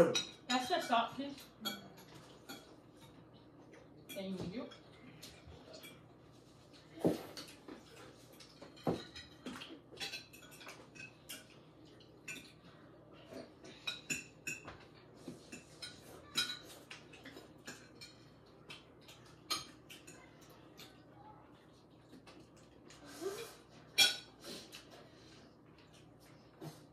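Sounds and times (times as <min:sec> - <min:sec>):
cutlery scraping on plates: 0:00.0 - 0:21.0, 0:23.4 - 0:24.9
soft chewing: 0:01.3 - 0:26.9.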